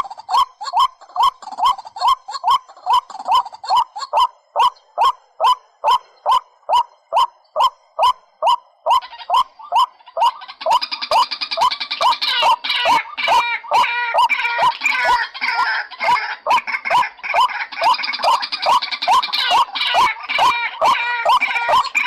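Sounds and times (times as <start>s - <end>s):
bird calling in upward notes: 0.0s - 22.0s
higher-pitched bird chattering: 0.0s - 22.0s.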